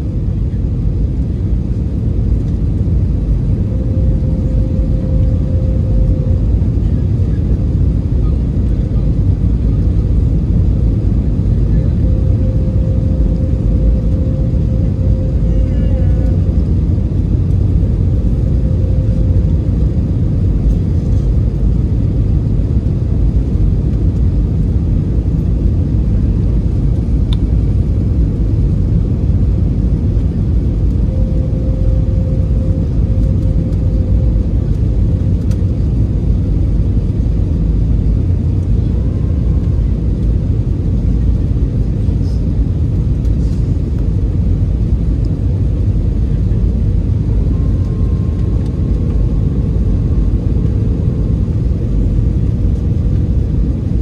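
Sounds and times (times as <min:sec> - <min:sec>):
airliner cabin engine rumble: 0:00.0 - 0:54.0
faint steady hum: 0:00.0 - 0:54.0.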